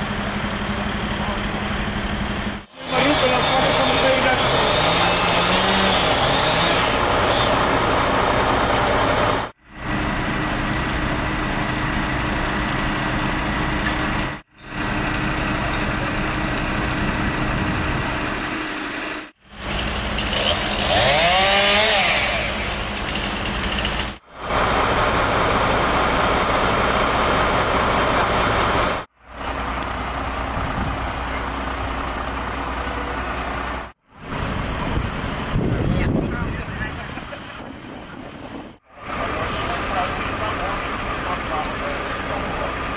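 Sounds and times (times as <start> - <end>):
engines idling hum: 0.0 - 6.0, 6.6 - 20.8, 22.4 - 42.9.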